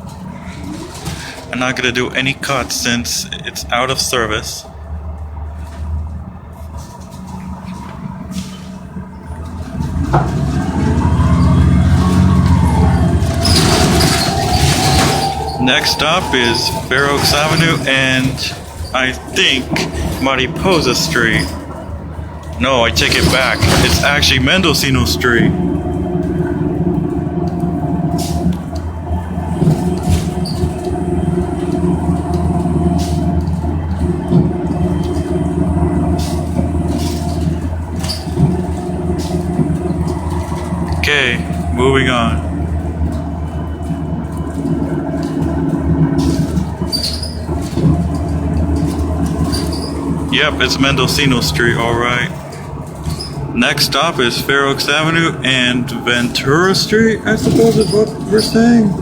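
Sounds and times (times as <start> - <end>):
bus engine rumble: 0.0 - 59.0
road noise: 0.0 - 59.0
transmission whine rising: 0.0 - 59.0.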